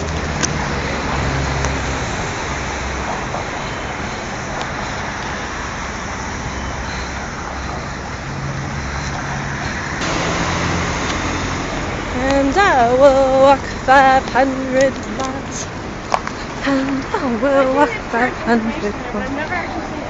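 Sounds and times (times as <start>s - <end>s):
low engine hum: 0.0s - 20.0s
street traffic: 0.0s - 20.0s.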